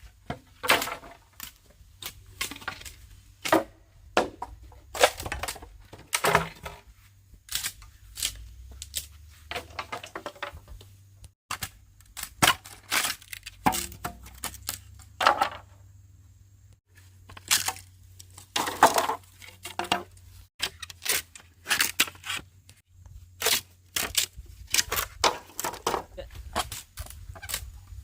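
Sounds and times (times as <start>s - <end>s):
bamboo being chopped: 0.4s - 6.8s, 7.5s - 10.7s, 11.5s - 15.6s, 17.2s - 22.4s, 23.4s - 27.7s.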